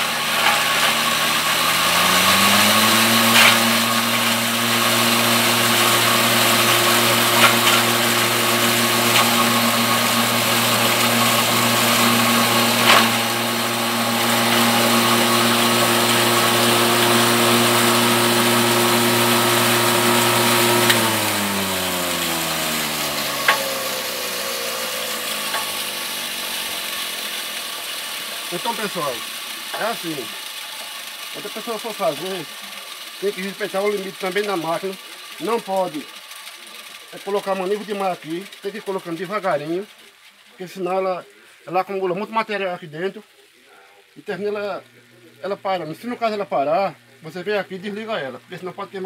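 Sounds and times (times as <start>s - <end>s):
chopper-grinder motor humming: 0.0s - 40.1s.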